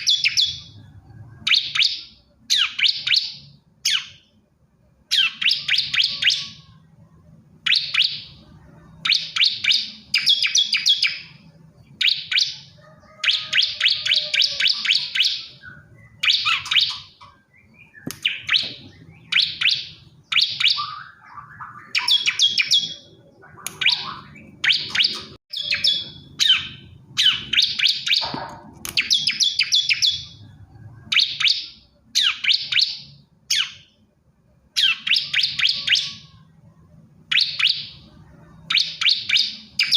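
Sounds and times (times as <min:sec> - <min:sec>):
bird rapid high chirping: 0:00.0 - 0:04.4, 0:05.1 - 0:06.8, 0:07.6 - 0:34.0, 0:34.7 - 0:36.5, 0:37.3 - 0:39.9.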